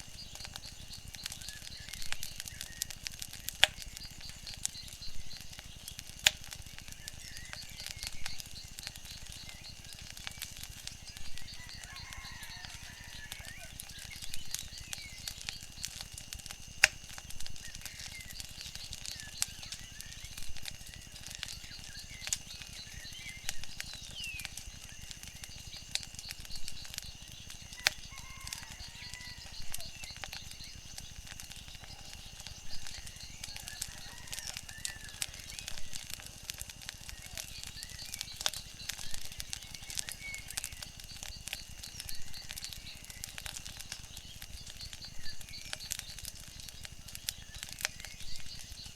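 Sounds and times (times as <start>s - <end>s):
faint chirps: 0.0s - 48.9s
wood fire crackling: 0.0s - 48.9s.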